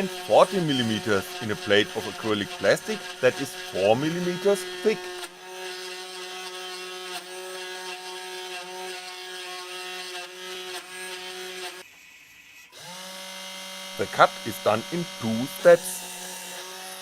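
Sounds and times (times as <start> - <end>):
router spindle humming: 0.0 - 17.0.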